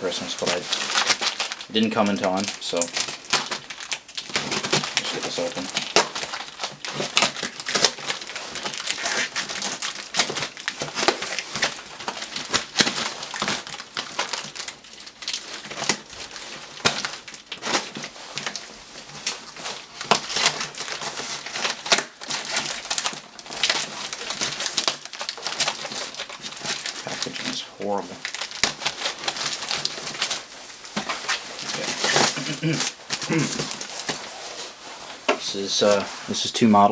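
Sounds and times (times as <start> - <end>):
packing material tearing: 0.0 - 36.4
packing material crinkling: 0.0 - 36.5.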